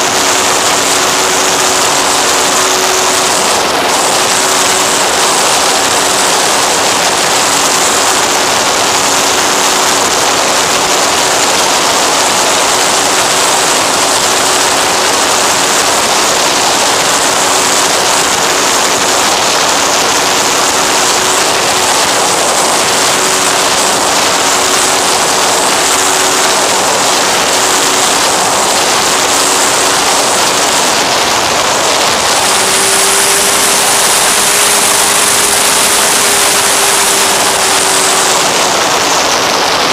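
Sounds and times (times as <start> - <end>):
motor and propeller drone: 0.0 - 39.9
rush of air over microphone: 0.0 - 39.9.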